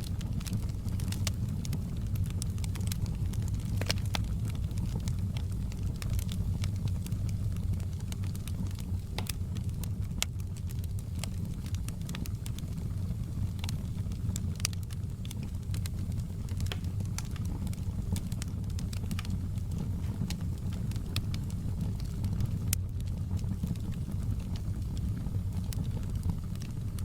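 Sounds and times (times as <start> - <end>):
crackles and pops of logs: 0.0 - 27.0
log fire rumbling: 0.0 - 27.0.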